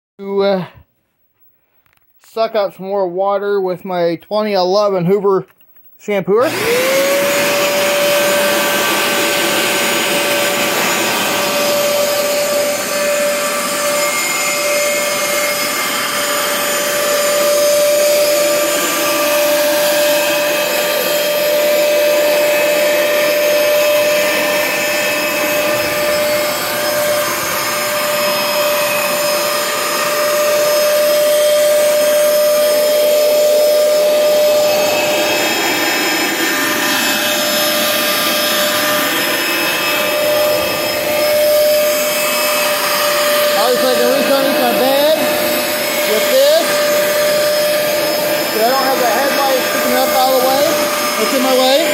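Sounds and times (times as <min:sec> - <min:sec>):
carpet cleaner suction motor whine: 0:06.4 - 0:51.9.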